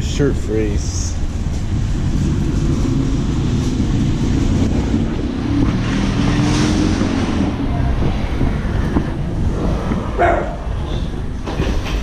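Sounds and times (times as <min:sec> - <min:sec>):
microphone handling and wind noise: 0:01.1 - 0:12.0.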